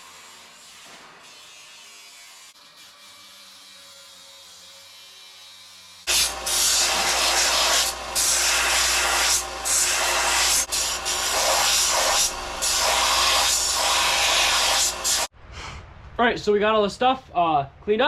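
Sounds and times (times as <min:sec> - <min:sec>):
power sander scraping steel: 0:00.0 - 0:15.3.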